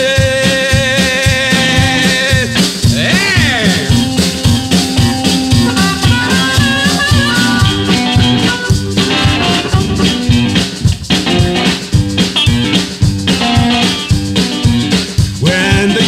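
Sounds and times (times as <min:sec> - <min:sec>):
blues-rock instrumental music: 0:00.0 - 0:16.0.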